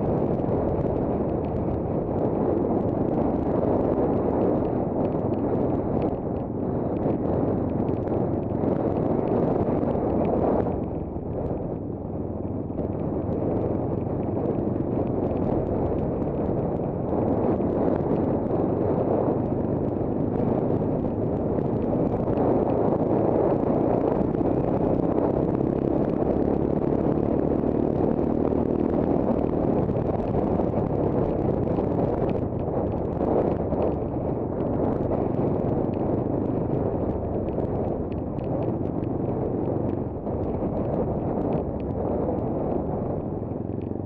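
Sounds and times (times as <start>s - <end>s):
wind on microphone: 0.0s - 44.0s.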